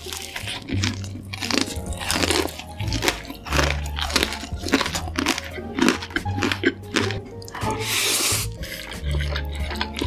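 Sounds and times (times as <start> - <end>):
crunchy bites and chewing: 0.0 - 10.0.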